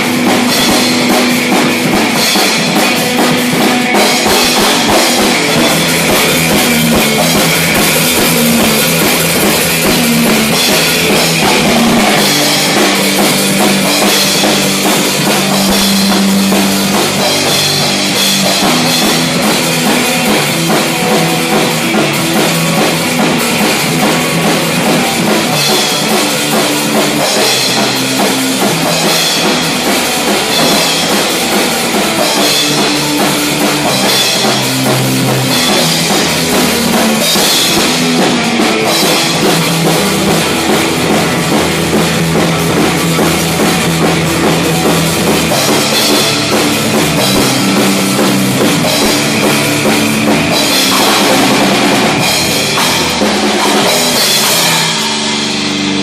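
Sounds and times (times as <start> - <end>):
bass drum and cymbals: 0.0 - 56.0
heavy rock song: 0.0 - 56.0.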